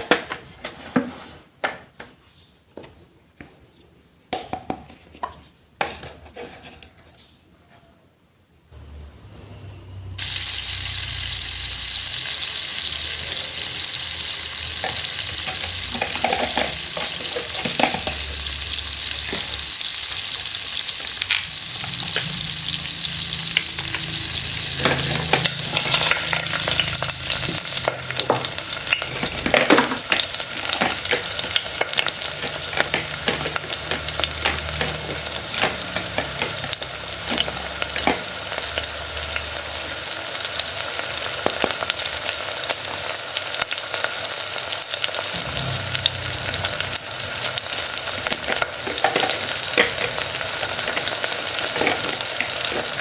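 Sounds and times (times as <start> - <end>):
food sizzling in a pan: 10.2 - 53.0.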